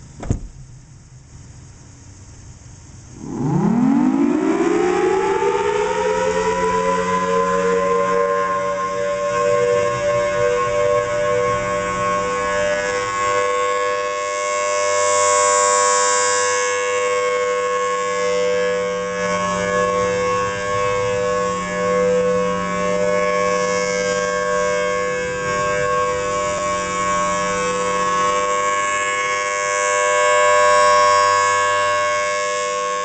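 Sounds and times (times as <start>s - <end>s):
warning siren steady tone: 3.0s - 33.0s.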